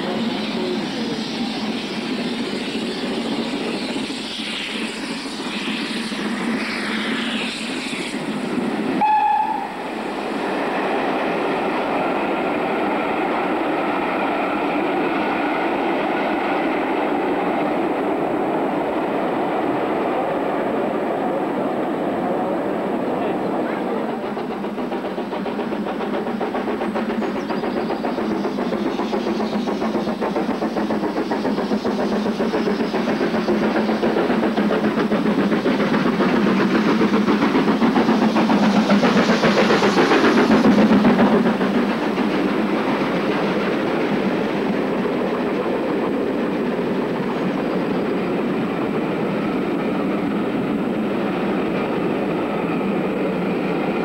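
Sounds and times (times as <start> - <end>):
steam locomotive passing: 0.0 - 54.0
train coaches rolling by: 0.0 - 54.0.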